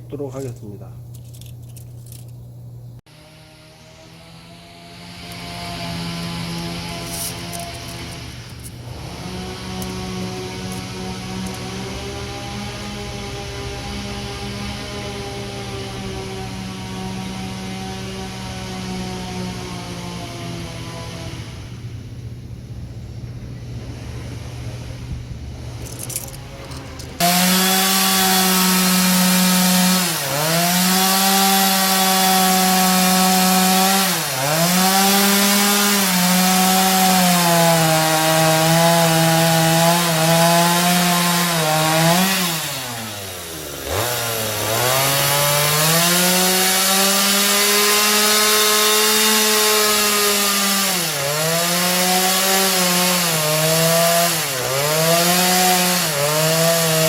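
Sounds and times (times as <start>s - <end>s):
power tool cutting wood: 3.1s - 21.8s, 25.7s - 57.0s.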